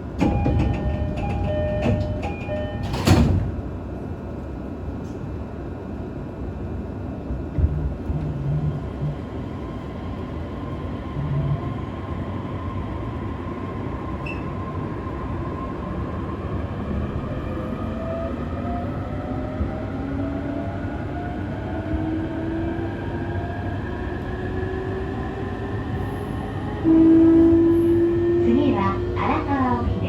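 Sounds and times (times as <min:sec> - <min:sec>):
train wheels rumbling on track: 0:00.0 - 0:30.0.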